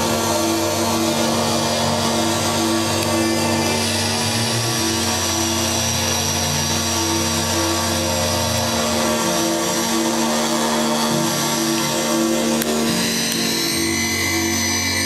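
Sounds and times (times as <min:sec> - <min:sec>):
looped electronic synth drone: 0:00.0 - 0:15.0
pulsing synth tone: 0:00.0 - 0:15.0.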